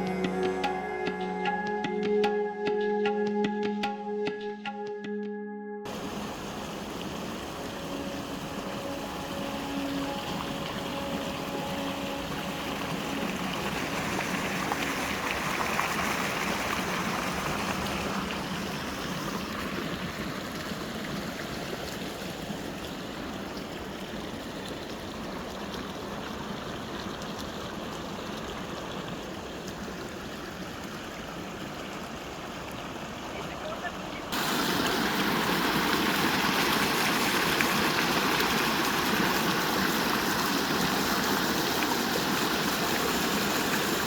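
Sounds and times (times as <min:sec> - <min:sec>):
stream water running: 0:00.0 - 0:02.5, 0:05.9 - 0:44.0.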